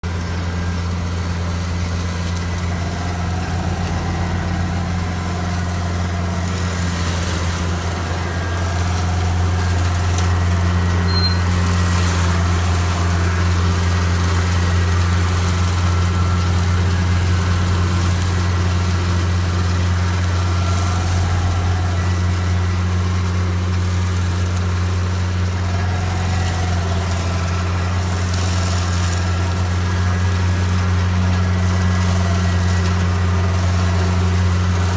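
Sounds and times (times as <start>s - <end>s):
harvester machine humming: 0.0s - 34.9s.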